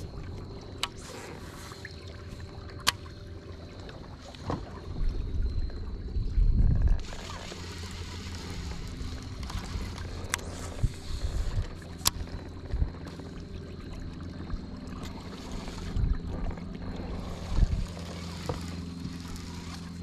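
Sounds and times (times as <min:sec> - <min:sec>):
electric trolling motor humming: 0:00.0 - 0:20.0.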